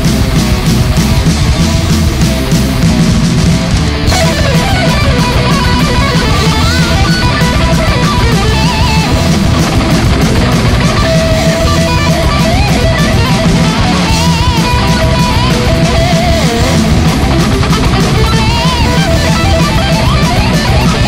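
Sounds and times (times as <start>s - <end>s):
bass guitar: 0.0s - 21.0s
distorted electric guitars: 0.0s - 21.0s
drums playing: 0.0s - 21.0s
lead guitar bending pitch: 0.0s - 21.0s.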